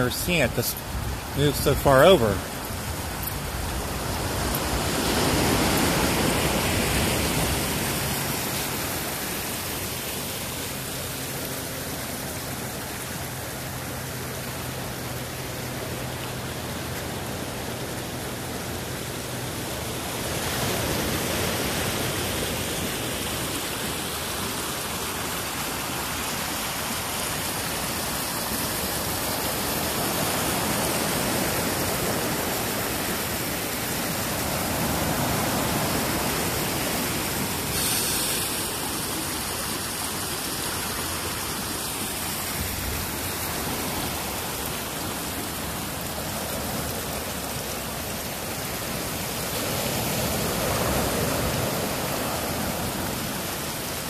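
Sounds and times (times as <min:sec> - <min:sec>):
ocean surf washing in: 0:00.0 - 0:54.0
river rushing over rocks: 0:00.0 - 0:54.0.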